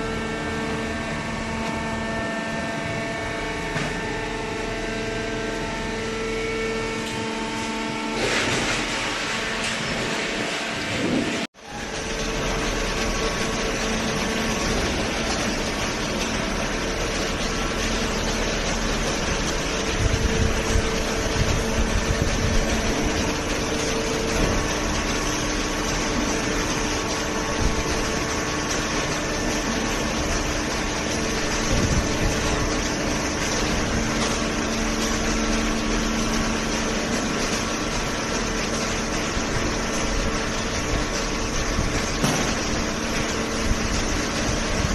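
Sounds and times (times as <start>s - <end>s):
hydraulic motor and pump humming: 0.0s - 44.9s.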